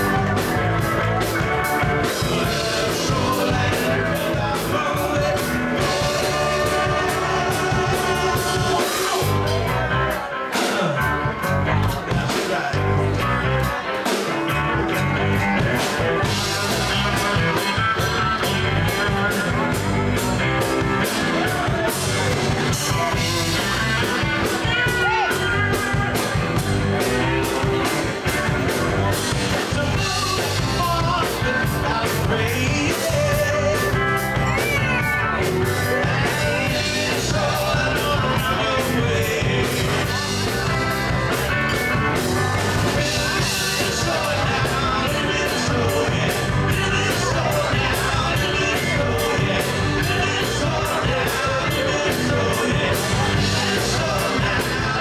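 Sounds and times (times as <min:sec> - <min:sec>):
bass guitar: 0:00.0 - 0:55.0
drums: 0:00.0 - 0:55.0
electric guitar: 0:00.0 - 0:55.0.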